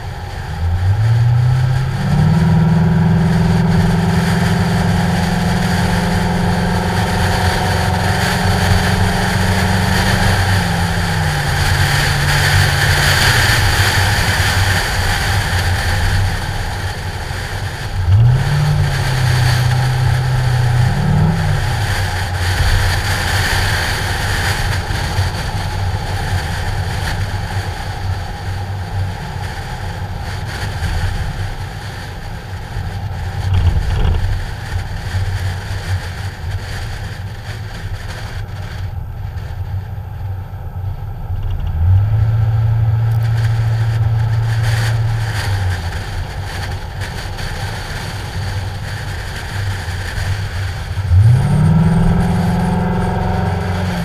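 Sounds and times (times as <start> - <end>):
car engine running: 0.0 - 54.0
wind noise on microphone: 0.0 - 54.0.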